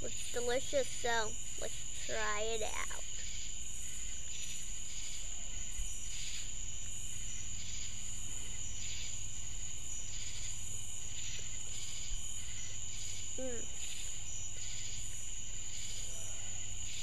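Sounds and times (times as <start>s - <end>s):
crickets trilling: 0.0s - 17.0s
pulsing insect call: 0.0s - 17.0s.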